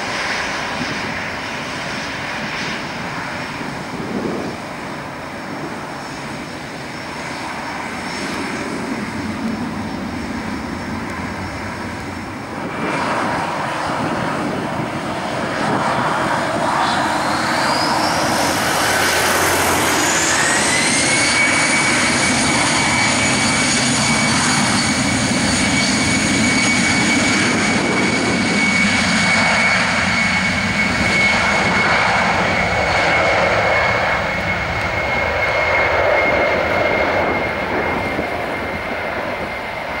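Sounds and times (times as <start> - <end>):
jet engine rising whine: 0.0 - 40.0
jet engine rumble: 0.0 - 40.0.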